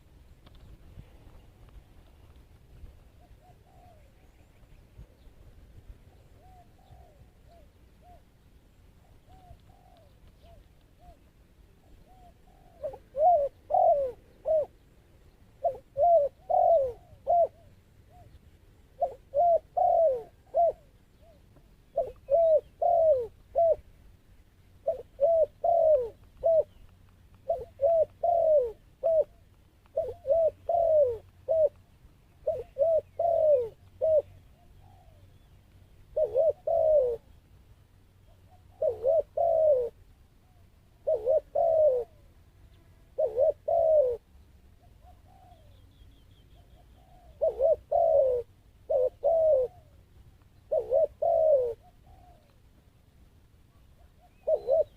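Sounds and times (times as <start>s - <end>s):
dove cooing: 3.0s - 4.5s, 6.0s - 8.4s, 9.0s - 23.9s, 24.8s - 37.4s, 38.2s - 42.3s, 43.1s - 52.7s, 53.7s - 54.9s.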